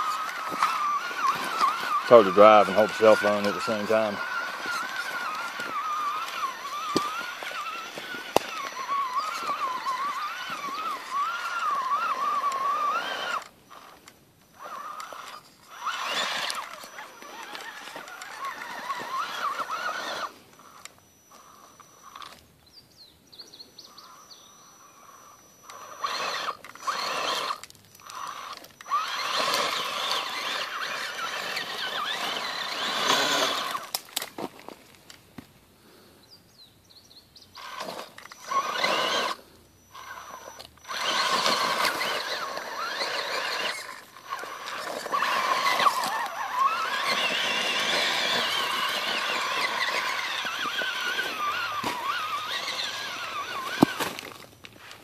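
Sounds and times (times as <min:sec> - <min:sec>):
electric motor whining in bursts: 0:00.0 - 0:22.5, 0:23.6 - 0:34.2, 0:37.4 - 0:55.0.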